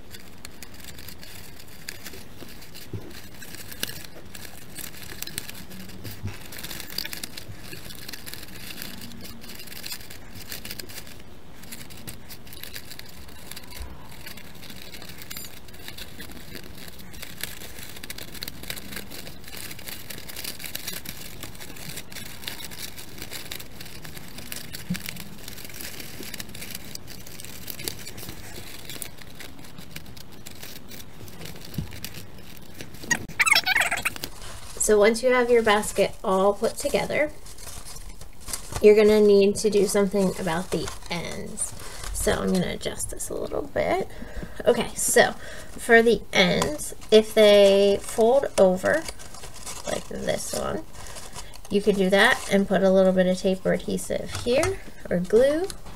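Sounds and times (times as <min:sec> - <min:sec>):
paper strips rustling and crinkling: 0:00.0 - 0:55.9.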